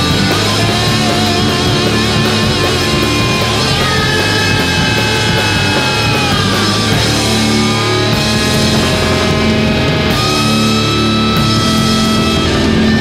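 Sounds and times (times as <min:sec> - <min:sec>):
electric guitar sliding down: 0:00.0 - 0:13.0
rock band playing: 0:00.0 - 0:13.0.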